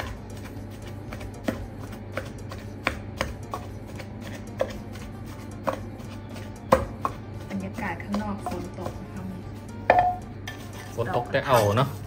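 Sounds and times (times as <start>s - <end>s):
pestle pounding in a mortar: 0.0s - 11.6s.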